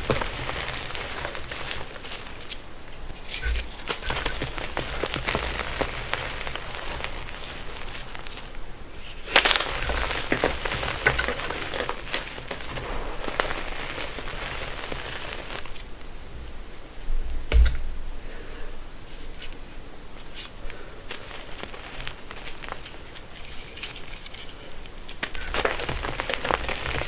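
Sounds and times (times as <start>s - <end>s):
chalk crunching and crackling: 0.0s - 16.0s, 19.0s - 27.0s.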